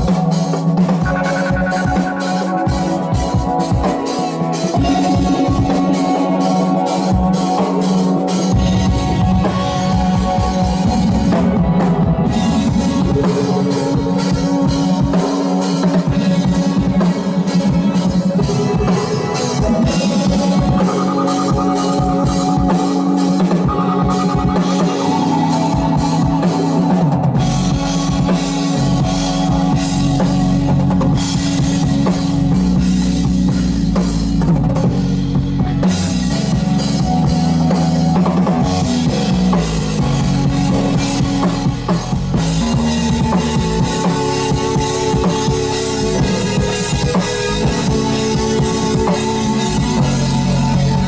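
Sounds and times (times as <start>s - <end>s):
deep bass: 0.0s - 51.0s
drums and cymbals: 0.0s - 51.0s.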